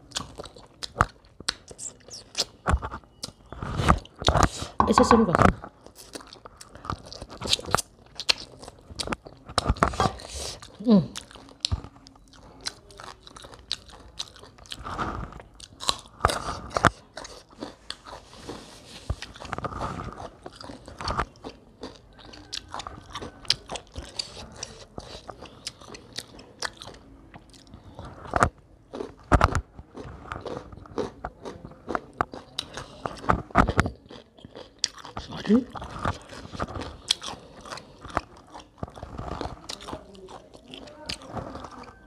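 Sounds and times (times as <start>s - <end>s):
person chewing: 0.0s - 42.0s.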